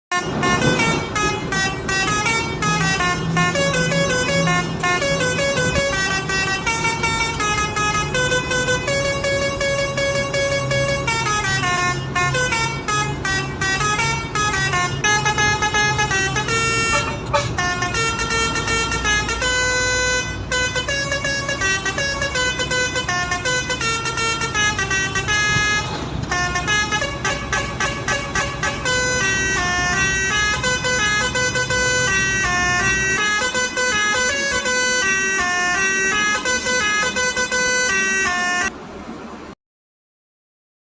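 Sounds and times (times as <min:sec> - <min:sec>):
musical truck horn melody: 0:00.1 - 0:38.8.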